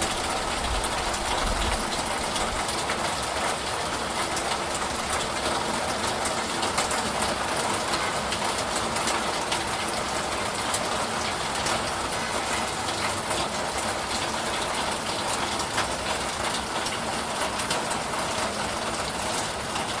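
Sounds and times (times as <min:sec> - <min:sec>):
raindrop ticks: 0:00.0 - 0:20.0
steady rain: 0:00.0 - 0:20.0.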